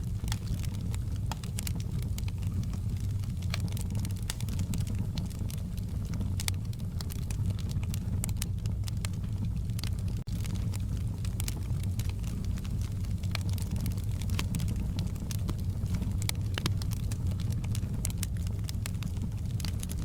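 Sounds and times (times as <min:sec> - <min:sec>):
fire crackling and popping: 0:00.0 - 0:20.0
fire rumbling in fireplace: 0:00.0 - 0:20.0.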